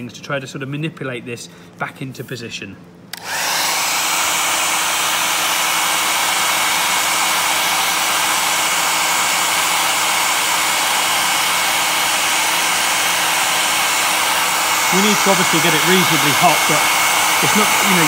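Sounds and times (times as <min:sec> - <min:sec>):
hairdryer running: 0:03.1 - 0:18.0.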